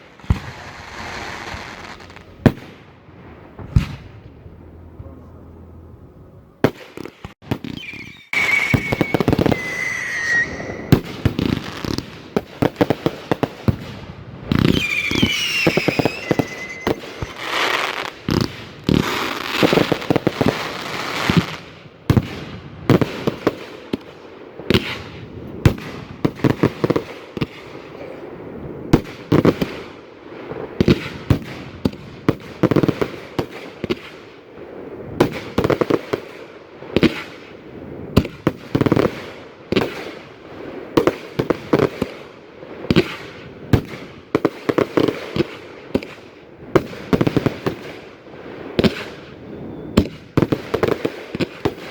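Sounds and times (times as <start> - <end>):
whistling fireworks: 0.0 - 4.4, 6.6 - 51.9
fireworks bangs and crackling: 0.0 - 5.2, 6.6 - 51.9.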